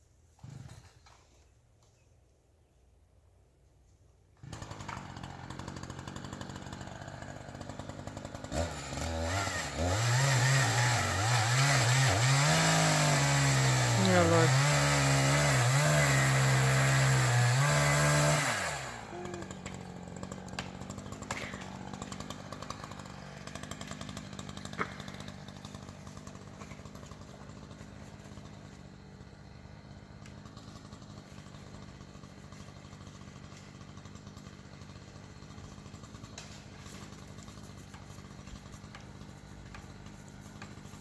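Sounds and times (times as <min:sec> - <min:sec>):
chainsaw cutting: 0:00.3 - 0:01.5, 0:04.4 - 0:41.0
chainsaw idling: 0:04.4 - 0:41.0.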